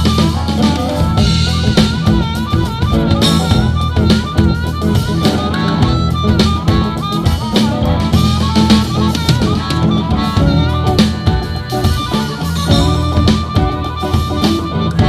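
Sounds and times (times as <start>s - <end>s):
bass line: 0.0s - 15.0s
blues band playing: 0.0s - 15.0s
drum kit beat: 0.0s - 15.0s
lead instrument bending melody: 0.0s - 15.0s.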